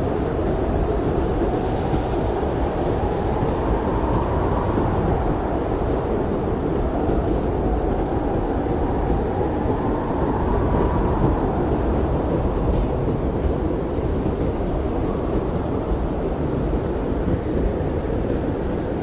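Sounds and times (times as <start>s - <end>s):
blizzard wind rumbling: 0.0s - 19.0s
howling wind whistle: 0.0s - 19.0s.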